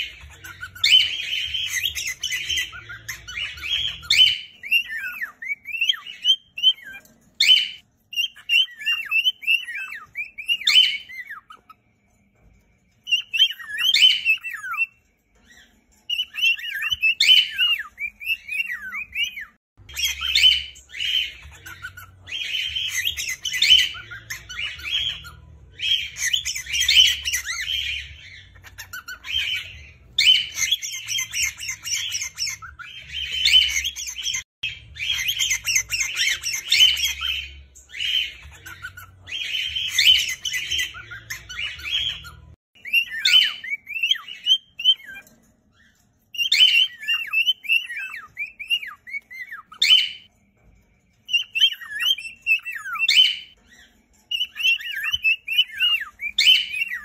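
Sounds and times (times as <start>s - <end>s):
cockatiels calling and chirping: 0.0s - 57.0s.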